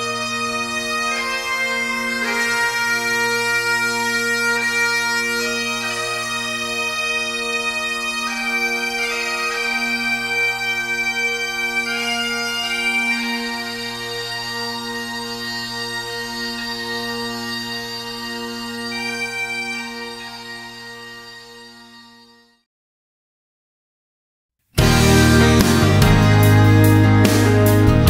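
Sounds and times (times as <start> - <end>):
bagpipe melody over drones: 0.0 - 22.7, 24.8 - 28.0.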